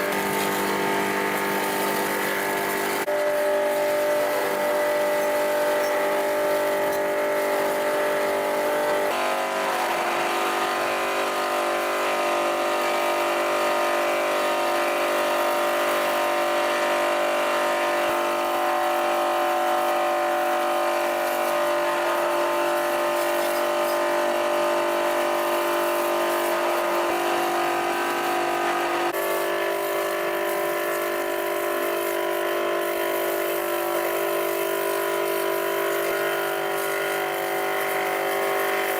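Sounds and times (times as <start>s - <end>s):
motor humming whine: 0.0s - 38.9s.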